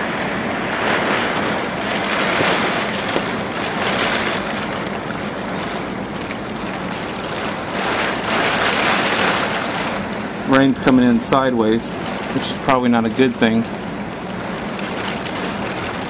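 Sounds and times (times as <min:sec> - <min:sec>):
heavy rain in strong wind: 0:00.0 - 0:16.0.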